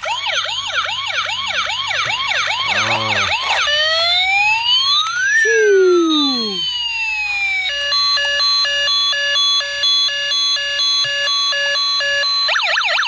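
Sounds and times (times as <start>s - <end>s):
electronic warbling alarm: 0.0s - 13.0s
toy siren falling wail: 0.0s - 13.0s.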